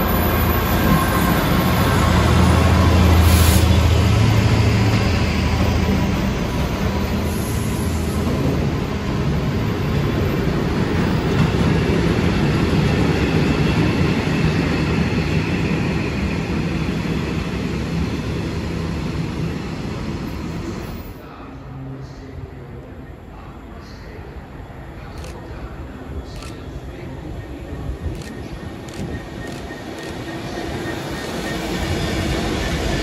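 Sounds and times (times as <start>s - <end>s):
train wheels rumbling on rails: 0.0s - 21.3s, 25.0s - 33.0s
train engine drone: 0.0s - 33.0s.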